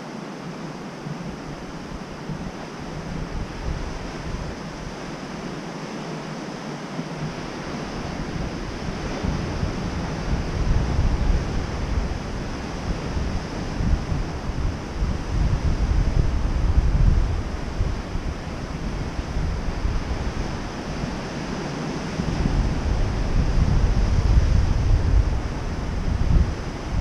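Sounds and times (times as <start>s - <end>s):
surf washing over rocks: 0.0s - 27.0s
wind buffeting microphone: 0.4s - 6.3s, 6.9s - 27.0s.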